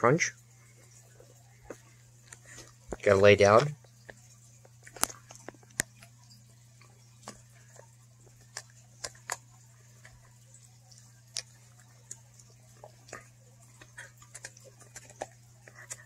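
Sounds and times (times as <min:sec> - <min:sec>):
faint low hum: 0:00.0 - 0:16.0
dog licking and gnawing: 0:01.1 - 0:16.0.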